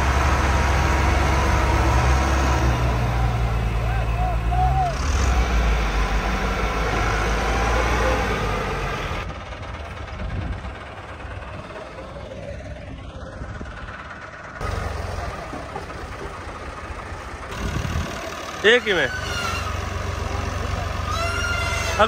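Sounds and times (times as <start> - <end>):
tractor engine rumbling: 0.0 - 22.0.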